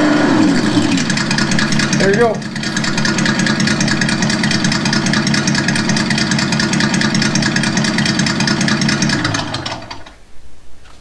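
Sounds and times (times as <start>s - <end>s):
simulated engine idle from speaker: 0.0s - 10.2s.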